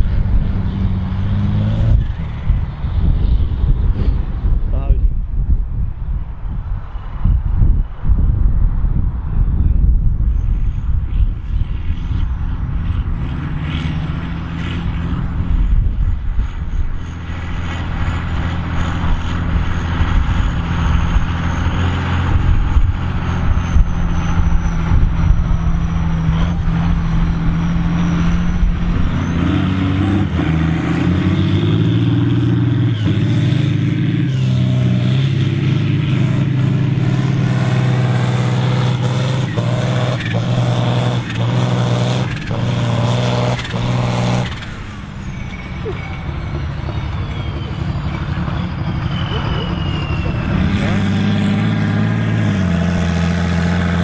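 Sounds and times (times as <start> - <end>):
diesel tractor engines under load: 0.0 - 54.0.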